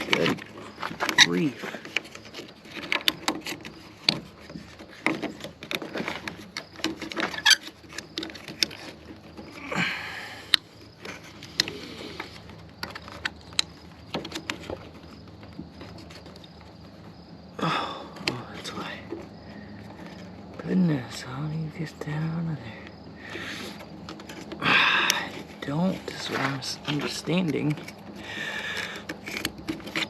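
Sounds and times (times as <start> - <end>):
scraping rustle: 0.0 - 17.5, 18.3 - 30.0.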